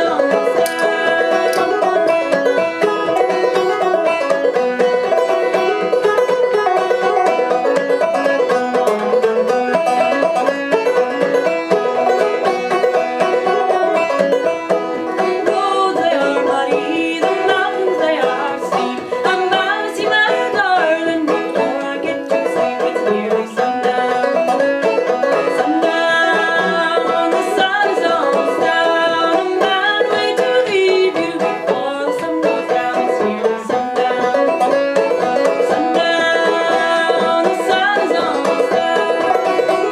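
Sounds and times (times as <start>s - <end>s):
band playing plucked notes: 0.0s - 39.9s.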